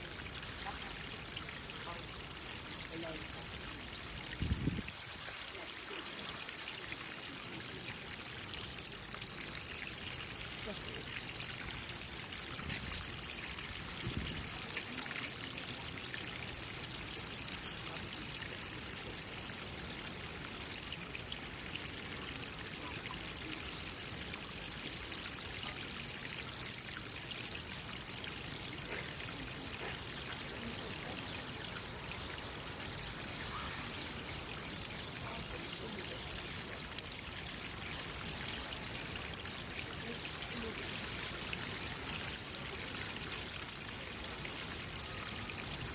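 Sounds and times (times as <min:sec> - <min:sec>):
water trickling into a pond: 0:00.0 - 0:45.9.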